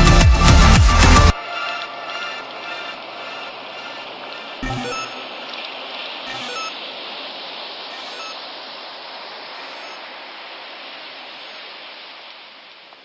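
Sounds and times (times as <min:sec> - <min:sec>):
steady rushing hiss: 0:00.0 - 0:13.0.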